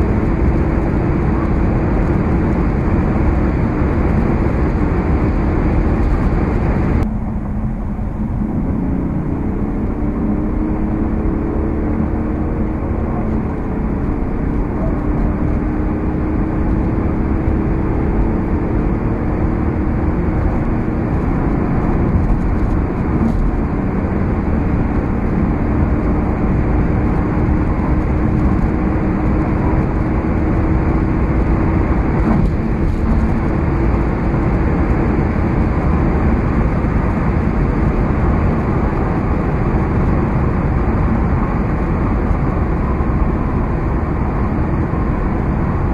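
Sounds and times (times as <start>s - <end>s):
diesel engine drone: 0.0s - 45.9s
wind and road noise: 0.0s - 45.9s.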